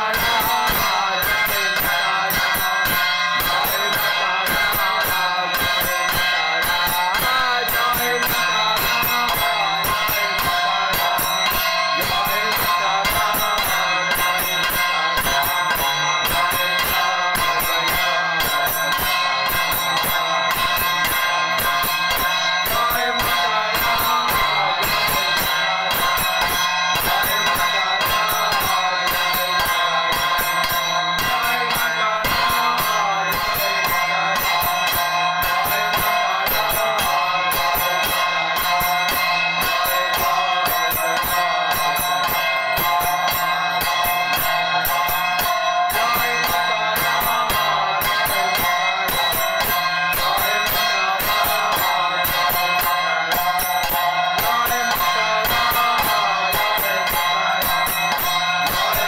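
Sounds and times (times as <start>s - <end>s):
continuous bright ringing: 0.0s - 59.0s
man singing into a microphone: 0.0s - 59.0s.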